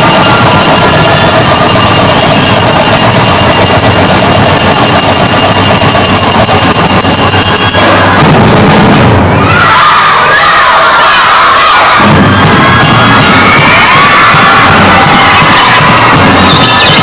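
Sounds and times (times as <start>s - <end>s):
loud distorted performance music: 0.0s - 9.5s, 11.7s - 17.0s
crowd cheering and shouting: 0.0s - 17.0s.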